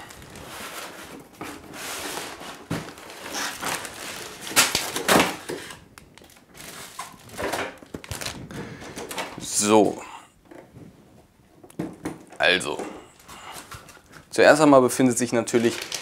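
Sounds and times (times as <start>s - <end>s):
cardboard rustling and crinkling: 0.0s - 9.5s, 11.8s - 14.4s, 15.2s - 16.0s.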